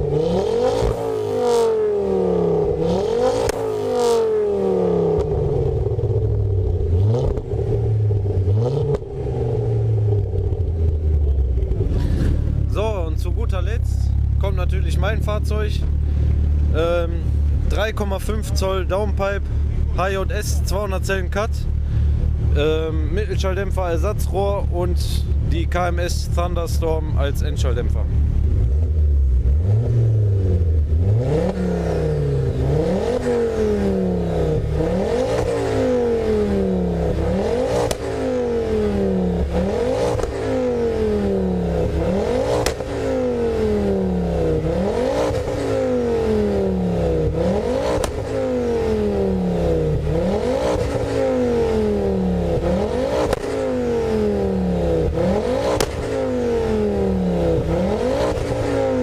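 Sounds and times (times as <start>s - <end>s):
car engine revving: 0.0s - 59.0s
exhaust cracks: 0.0s - 59.0s.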